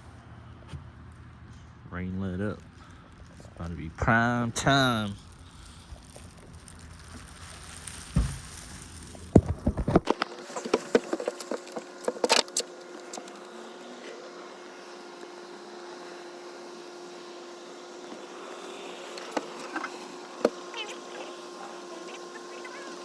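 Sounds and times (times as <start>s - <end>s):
small electric motor humming: 2.6s - 23.0s.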